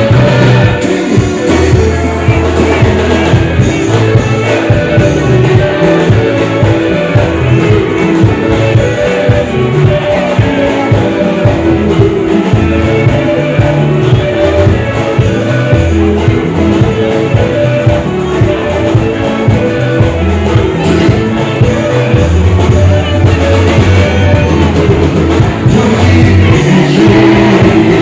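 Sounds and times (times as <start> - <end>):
live band with guitars: 0.0 - 28.0.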